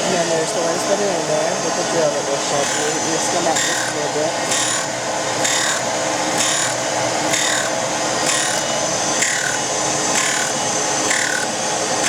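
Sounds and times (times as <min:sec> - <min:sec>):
drill grinder grinding: 0:00.0 - 0:12.0.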